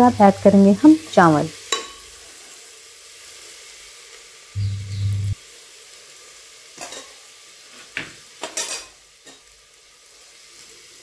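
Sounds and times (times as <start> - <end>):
vegetables sizzling faintly: 0.0 - 11.0.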